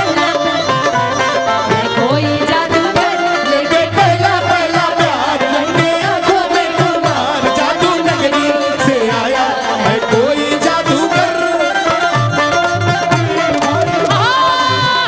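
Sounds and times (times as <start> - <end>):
ornamented folk melody: 0.0 - 15.0
steady drum beat: 1.7 - 15.0.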